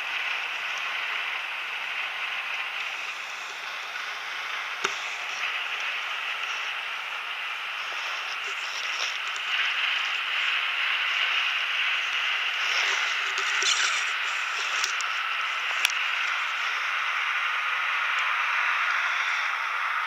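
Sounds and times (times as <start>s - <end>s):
snowmobile rushing hiss: 0.9s - 20.0s.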